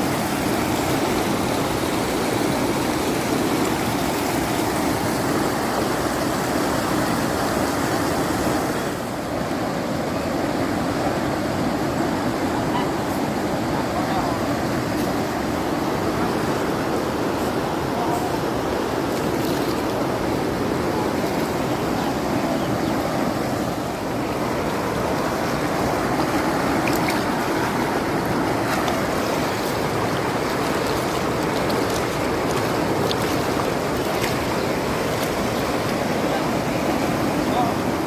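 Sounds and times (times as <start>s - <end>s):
river water rushing: 0.0s - 38.0s.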